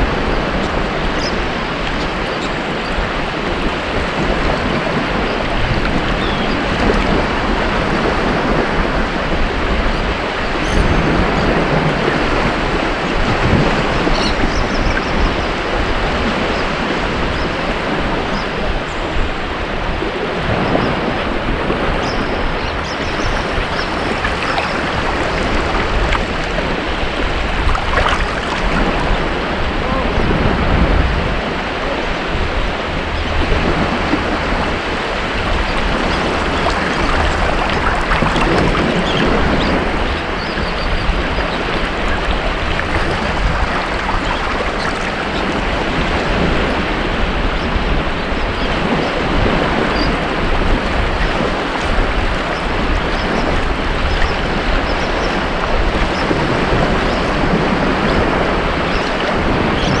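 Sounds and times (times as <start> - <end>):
ocean waves on a beach: 0.0 - 60.0.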